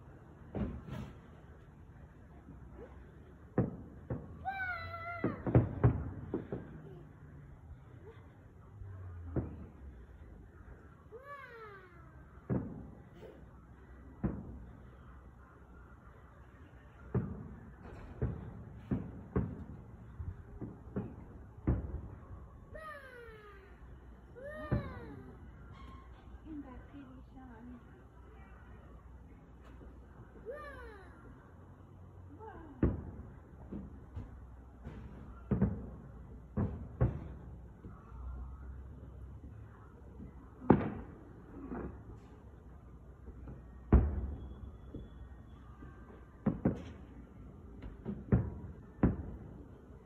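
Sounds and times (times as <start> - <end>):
distant fireworks booming: 0.1 - 15.8, 16.7 - 27.9, 32.6 - 50.0.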